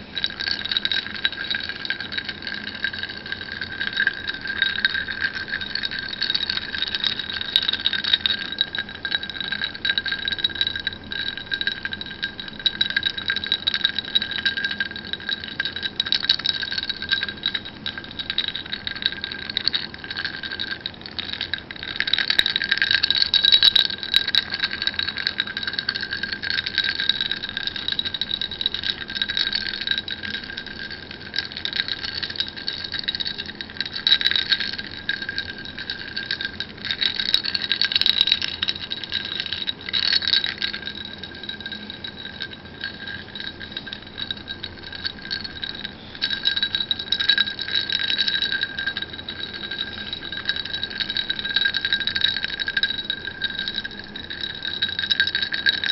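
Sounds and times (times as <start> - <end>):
glass ringing tone: 0.0 - 55.9
ice cubes clinking in glass: 0.0 - 55.9.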